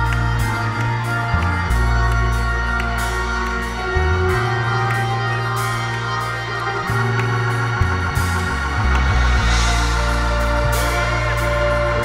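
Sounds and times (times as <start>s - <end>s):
bass guitar deep notes: 0.0s - 12.0s
organ chords: 0.0s - 12.0s.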